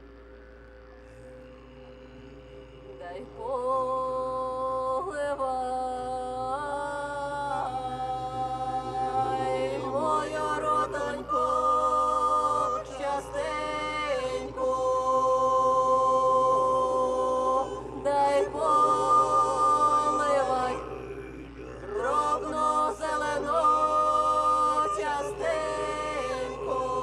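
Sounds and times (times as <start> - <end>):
group singing in harmony: 1.4 - 27.0.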